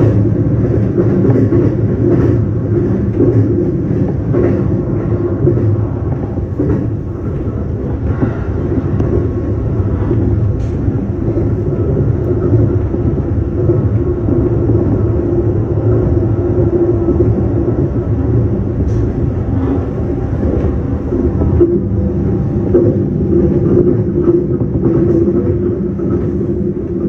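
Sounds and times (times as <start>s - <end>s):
train rumbling inside carriage: 0.0s - 27.0s
train wheels clicking: 0.0s - 27.0s.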